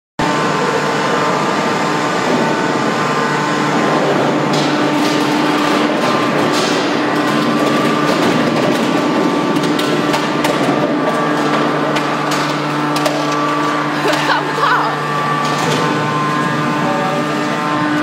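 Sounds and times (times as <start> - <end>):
hydraulic machine hum: 0.2 - 18.0.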